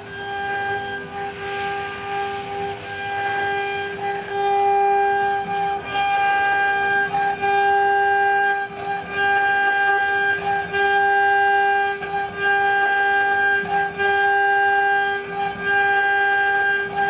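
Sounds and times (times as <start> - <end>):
milling spindle whining: 0.0 - 17.0.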